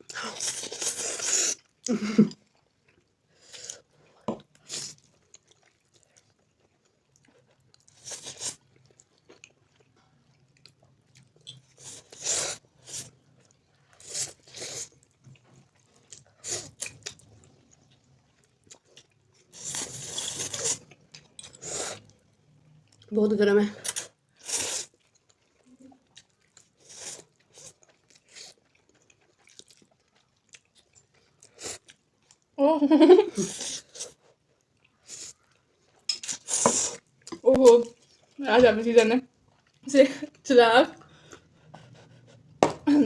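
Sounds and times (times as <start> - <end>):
chewing and slurping noodles: 0.2 - 23.1, 23.8 - 32.4, 33.4 - 38.4.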